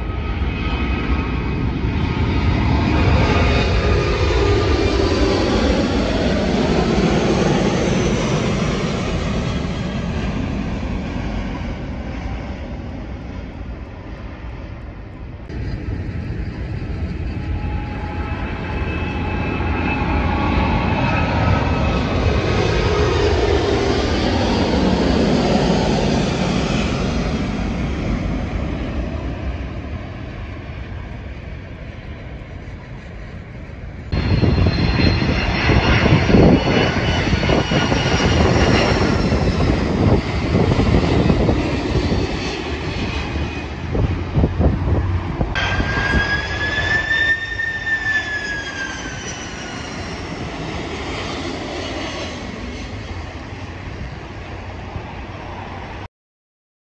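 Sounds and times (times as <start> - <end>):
jet engine roar: 0.0 - 56.1
jet engine whine: 0.0 - 56.1.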